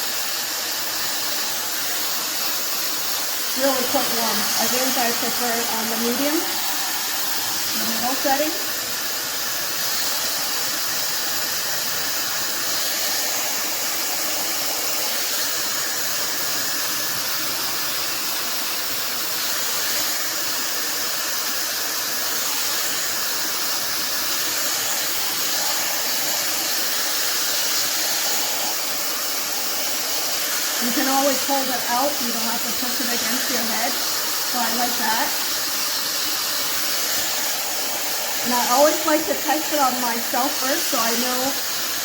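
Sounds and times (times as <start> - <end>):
hair dryer running: 0.0 - 42.0.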